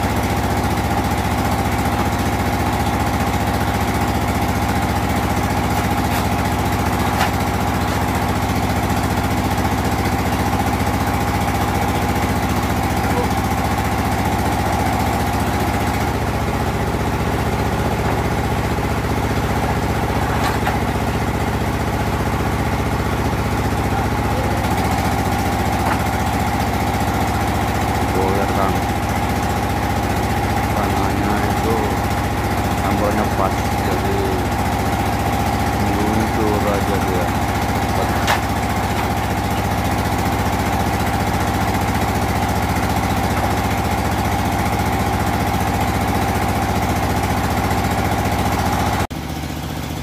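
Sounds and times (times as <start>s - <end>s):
brick-moulding machine humming: 0.0s - 50.0s.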